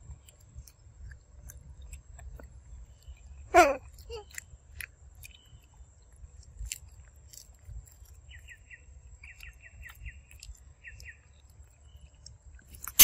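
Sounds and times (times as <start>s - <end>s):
monkey chewing fruit: 0.0s - 8.6s, 9.2s - 13.0s
small wet clicks: 0.0s - 8.6s, 9.2s - 13.0s.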